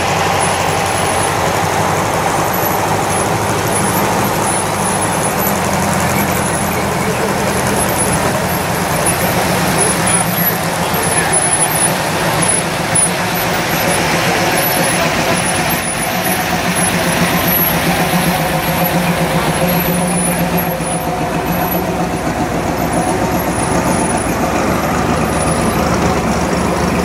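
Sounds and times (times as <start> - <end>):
car engines running low: 0.0 - 27.0.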